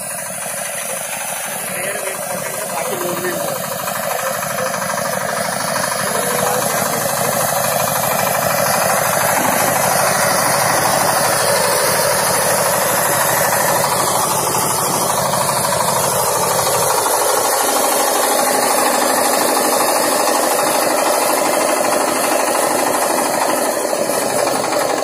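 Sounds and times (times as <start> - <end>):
diesel tractor engine knocking: 0.0 - 25.0.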